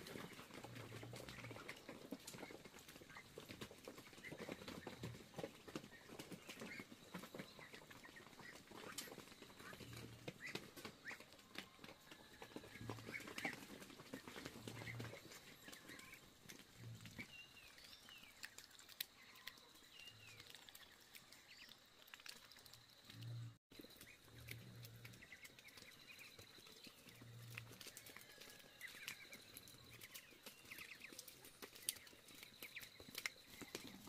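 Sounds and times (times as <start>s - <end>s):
ducks chirping faintly: 0.0s - 34.0s.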